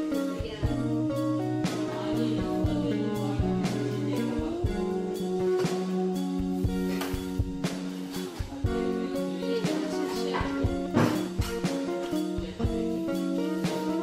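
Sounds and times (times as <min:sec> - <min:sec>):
guitar music: 0:00.0 - 0:14.0
drum beat: 0:01.6 - 0:14.0.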